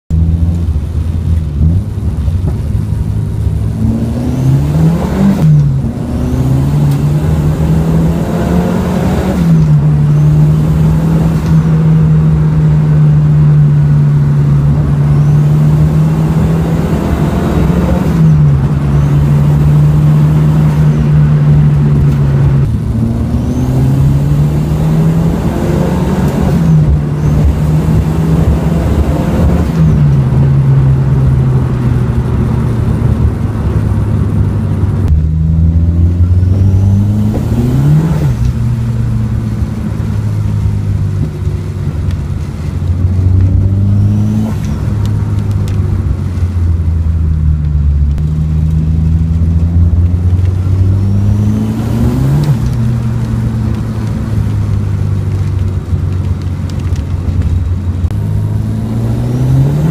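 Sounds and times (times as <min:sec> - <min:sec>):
car engine accelerating through gears: 0:00.1 - 0:59.9.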